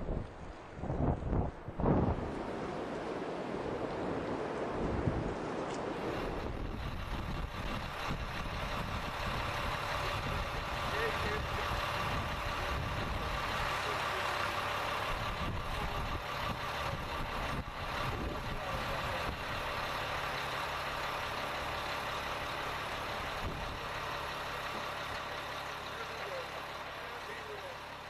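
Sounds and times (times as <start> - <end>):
vehicle engines rumbling: 0.0 - 28.0.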